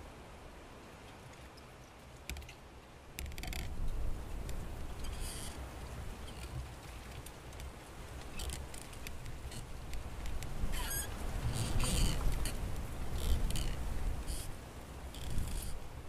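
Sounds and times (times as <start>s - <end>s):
wind rumbling on microphone: 0.0s - 16.0s
small clicks and rustles: 1.0s - 15.8s.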